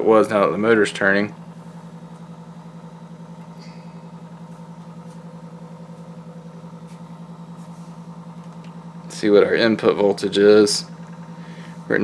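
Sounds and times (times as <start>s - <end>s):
mains hum and buzz: 0.0s - 12.0s
turntable motor pulsing: 0.0s - 12.0s.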